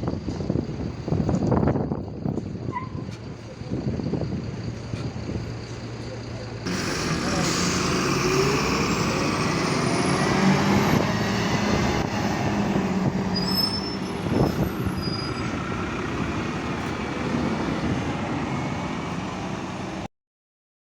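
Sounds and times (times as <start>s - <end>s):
road noise: 0.0s - 20.1s
bus engine humming: 0.1s - 20.1s.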